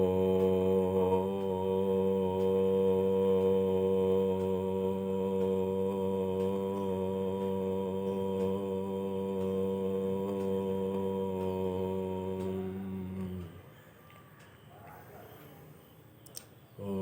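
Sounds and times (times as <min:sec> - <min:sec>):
low voice chanting om: 0:00.0 - 0:17.0.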